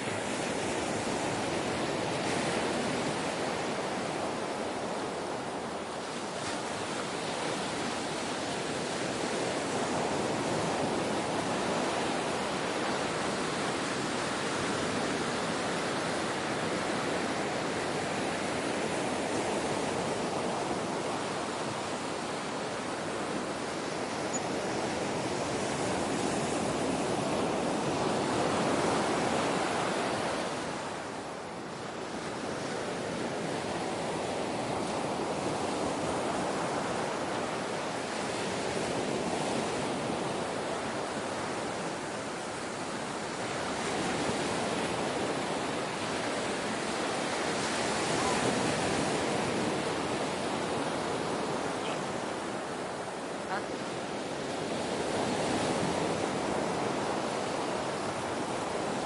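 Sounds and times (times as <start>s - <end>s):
ocean waves washing ashore: 0.0s - 59.0s.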